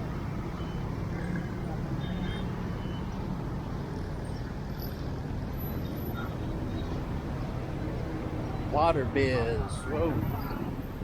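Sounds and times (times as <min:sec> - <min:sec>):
city road traffic rumble: 0:00.0 - 0:11.0.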